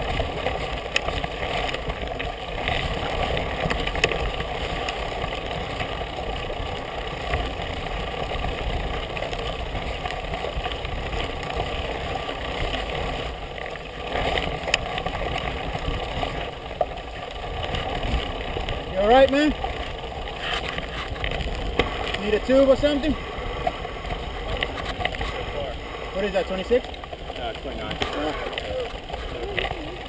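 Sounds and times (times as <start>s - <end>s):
bike clicks and rattles: 0.0s - 30.0s
bike tyre rumbling on dirt trail: 0.0s - 30.0s
wind on camera: 0.0s - 30.0s.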